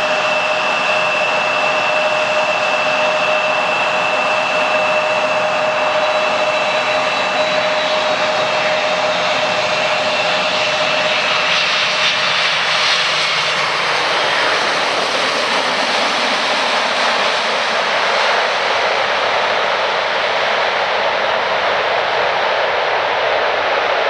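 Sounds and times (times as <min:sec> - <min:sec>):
broad steady roar: 0:00.0 - 0:24.0
jet engines whining: 0:00.0 - 0:24.0.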